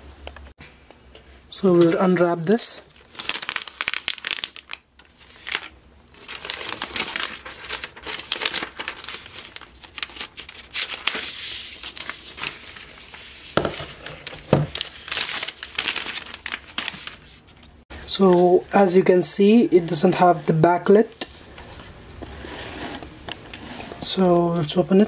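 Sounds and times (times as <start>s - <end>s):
wrapping sheet rustling: 1.6s - 24.1s.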